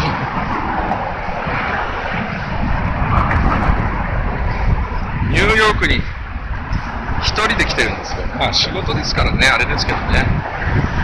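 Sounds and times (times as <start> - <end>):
road traffic: 0.0 - 11.0
wind rumbling on microphone: 0.0 - 11.0.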